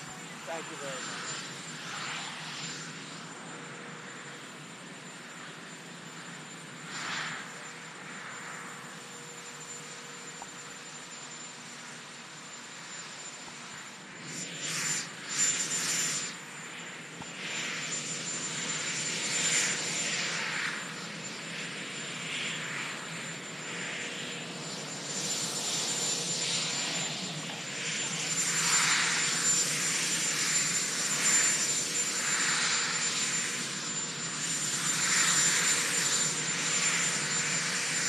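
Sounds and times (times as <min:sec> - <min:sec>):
helicopter turbine whine: 0:00.0 - 0:38.0.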